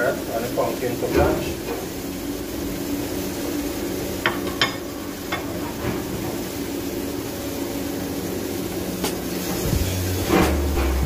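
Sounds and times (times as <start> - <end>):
fish steak sizzling in a frying pan: 0.0 - 11.0
pot of water boiling: 0.0 - 11.0.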